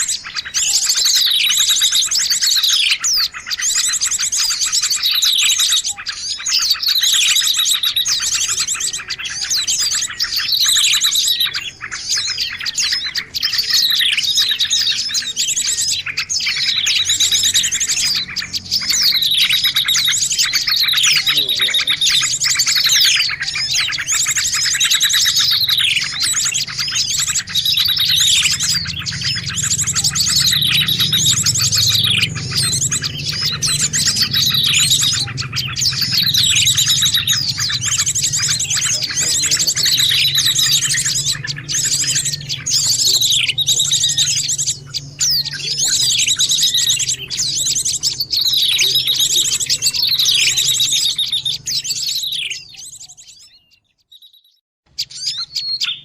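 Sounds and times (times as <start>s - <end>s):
falling whistled bird notes: 0.0s - 56.0s
songbirds chirping and trilling: 0.0s - 56.0s.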